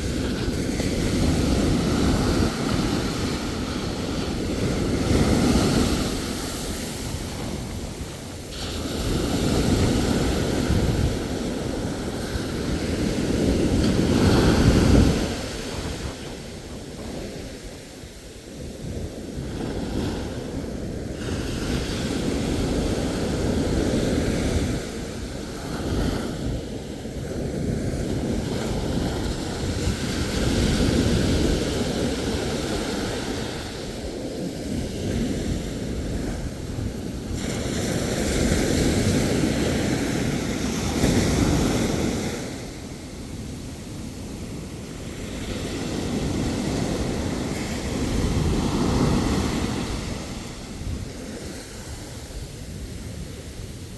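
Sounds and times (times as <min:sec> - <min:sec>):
ocean waves breaking: 0:00.0 - 0:53.9
wind rumble on microphone: 0:00.0 - 0:53.9.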